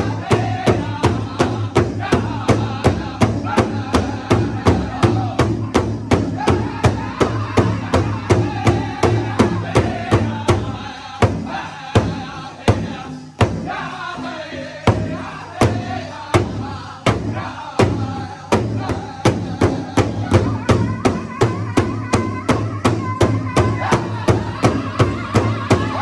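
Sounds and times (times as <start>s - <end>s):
large hide drum beats: 0.0s - 26.0s
men singing together: 0.0s - 26.0s.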